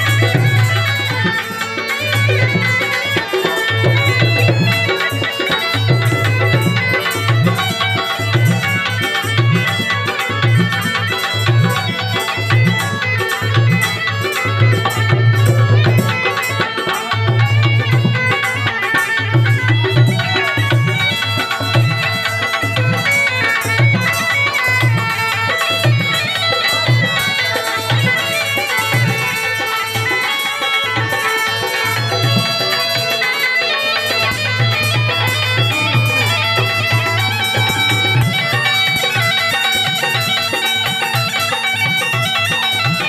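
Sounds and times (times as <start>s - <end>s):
drum beating: 0.0s - 43.0s.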